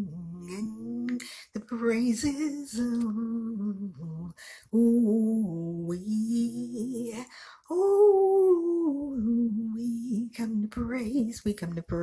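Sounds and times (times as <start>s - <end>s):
woman singing a cappella: 0.0s - 12.0s.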